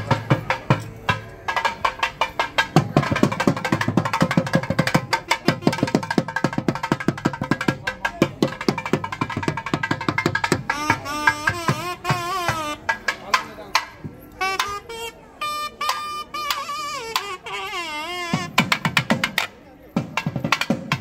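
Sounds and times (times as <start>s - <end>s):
drums in fast rhythm: 0.0s - 14.9s, 18.2s - 21.0s.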